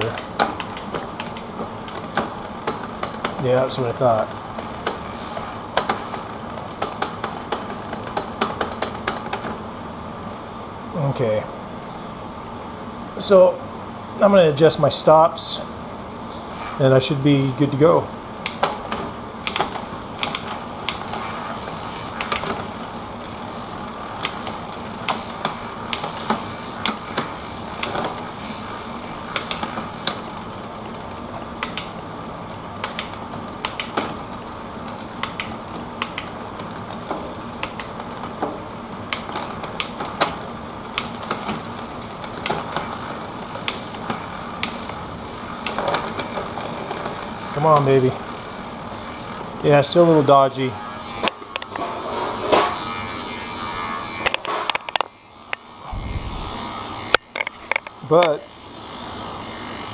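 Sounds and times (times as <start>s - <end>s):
bike drivetrain clicking: 0.0s - 9.6s, 18.3s - 49.8s, 52.6s - 59.9s
steady hum: 0.0s - 59.9s.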